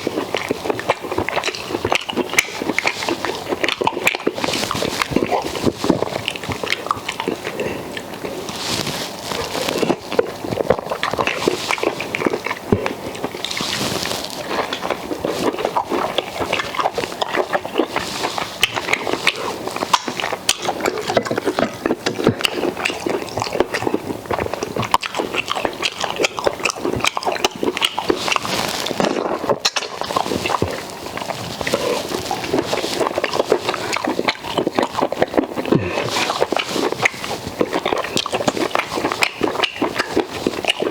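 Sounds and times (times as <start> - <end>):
person chewing with wet smacking: 0.0 - 40.9.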